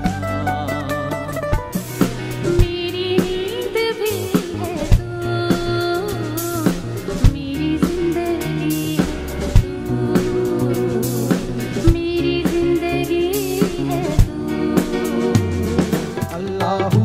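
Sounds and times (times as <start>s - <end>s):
sustained bass notes: 0.0s - 16.4s
drum kit with cymbals: 0.0s - 17.0s.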